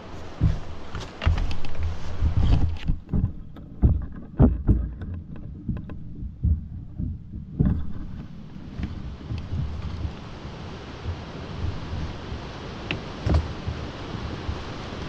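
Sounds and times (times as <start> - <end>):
knocks and scrapes of boats: 0.0 - 15.0
wind rumble on microphone: 0.0 - 15.0.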